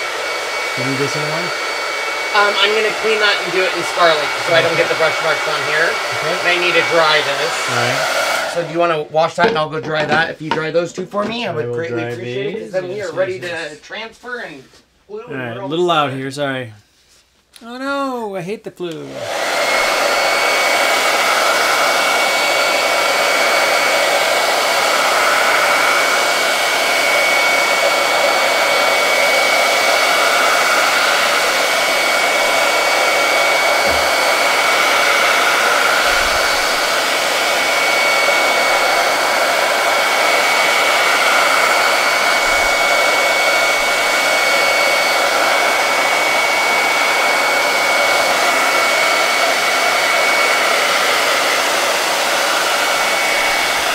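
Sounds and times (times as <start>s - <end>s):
hot-air dryer whining: 0.0s - 14.6s, 18.9s - 53.9s.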